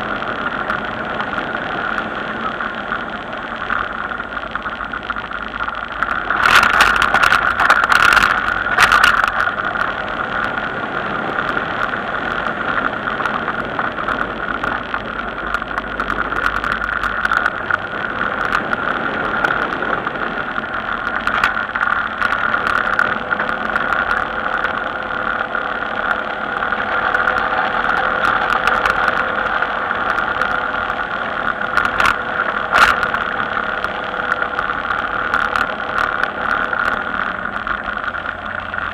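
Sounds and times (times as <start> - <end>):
wind and road noise: 0.0 - 38.9
rattles and knocks on gravel: 2.5 - 10.6, 11.3 - 38.9.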